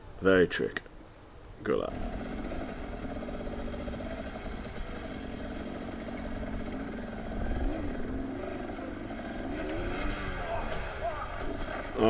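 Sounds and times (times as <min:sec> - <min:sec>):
dirt bike engine running: 0:01.9 - 0:12.0.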